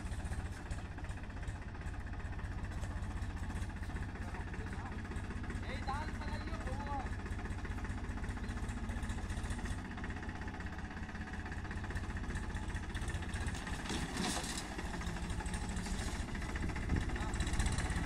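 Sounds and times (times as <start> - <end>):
tractor diesel engine chugging: 0.0 - 18.0.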